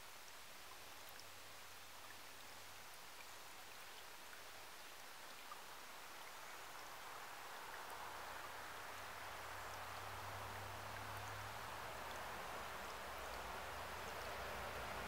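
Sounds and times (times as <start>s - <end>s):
stream trickling over stones: 0.0s - 15.0s.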